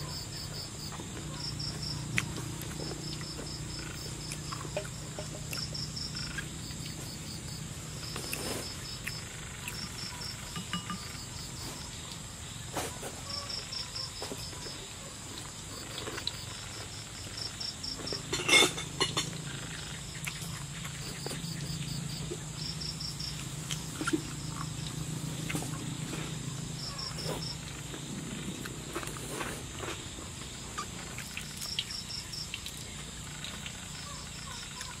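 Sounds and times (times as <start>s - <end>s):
crickets chirping: 0.0s - 35.0s
high insect drone: 0.0s - 35.0s.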